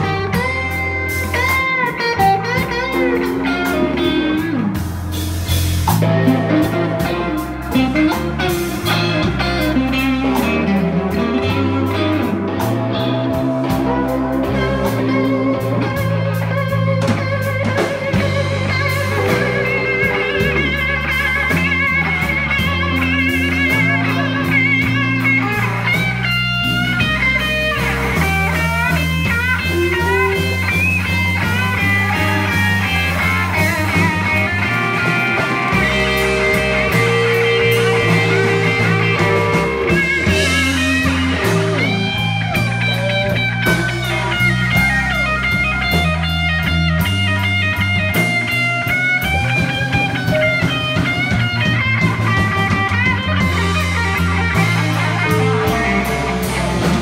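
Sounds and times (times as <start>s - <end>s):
bass line: 0.0s - 57.0s
blues band playing: 0.0s - 57.0s
electric guitar bending notes: 0.0s - 57.0s.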